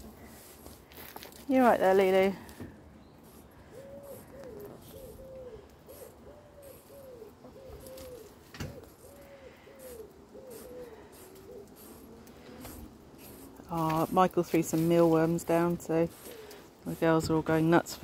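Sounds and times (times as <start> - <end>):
hens murmuring: 3.2 - 18.0.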